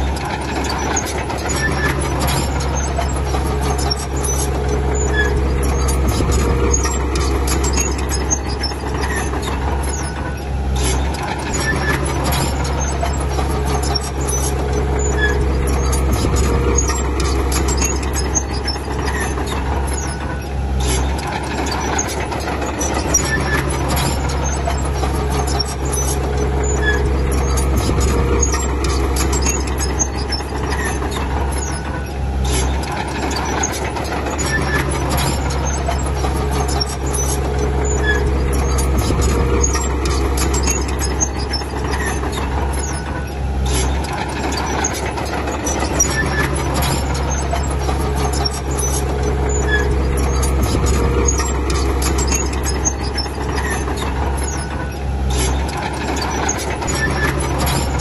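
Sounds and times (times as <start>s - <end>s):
clanks and squeaks: 0.0s - 58.0s
heavy machinery engine drone: 0.0s - 58.0s.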